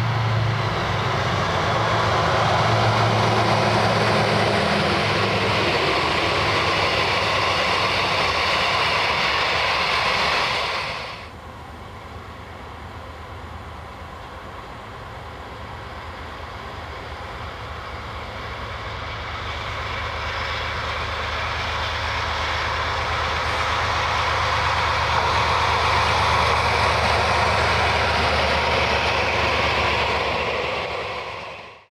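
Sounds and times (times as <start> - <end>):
train approaching: 0.0 - 31.9.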